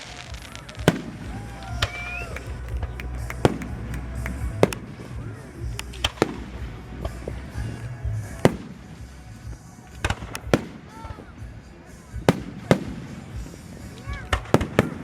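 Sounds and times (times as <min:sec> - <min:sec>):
fireworks bangs and pops: 0:00.0 - 0:15.0
steady low rumble: 0:00.8 - 0:15.0.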